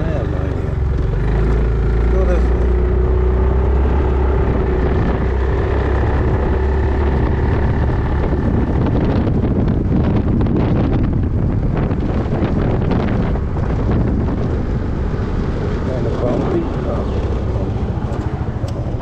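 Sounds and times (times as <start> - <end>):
scooter engine running: 0.0 - 19.0
wind buffeting microphone: 0.0 - 19.0.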